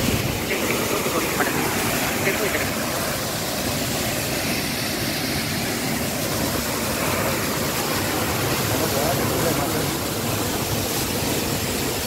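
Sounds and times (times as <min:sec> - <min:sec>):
waterfall rushing onto rocks: 0:00.0 - 0:12.0.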